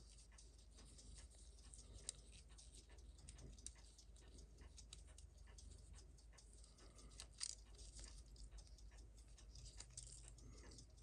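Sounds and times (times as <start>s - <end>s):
low electrical hum: 0.0s - 11.0s
small clicks of watchmaking tools: 0.0s - 11.0s.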